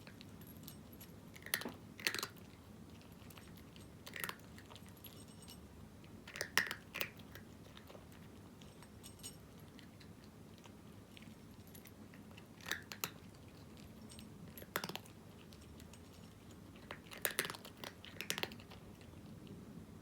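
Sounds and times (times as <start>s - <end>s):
cat crunching dry kibble: 0.0s - 19.6s.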